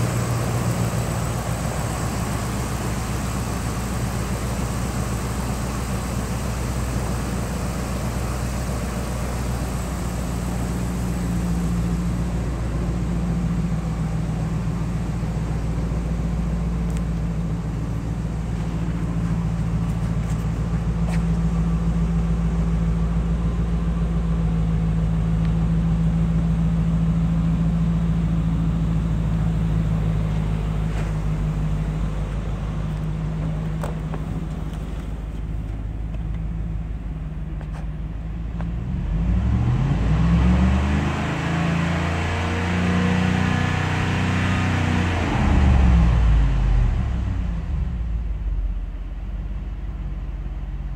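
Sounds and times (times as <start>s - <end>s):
truck engine idling: 0.0s - 38.8s, 45.2s - 50.9s.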